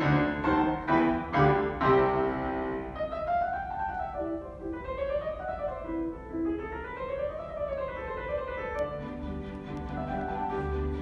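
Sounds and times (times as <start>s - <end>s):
orchestra playing piano concerto: 0.0s - 11.0s.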